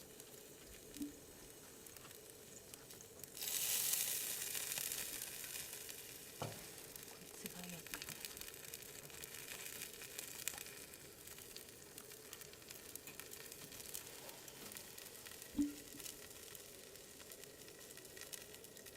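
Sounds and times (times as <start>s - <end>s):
fire crackling: 0.0s - 18.9s
meat sizzling over fire: 0.0s - 18.9s.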